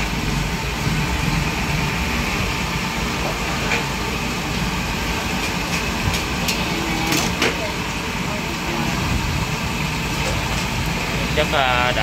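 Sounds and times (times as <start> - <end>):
gas burner running: 0.0 - 12.0
oil frying hiss: 0.0 - 12.0.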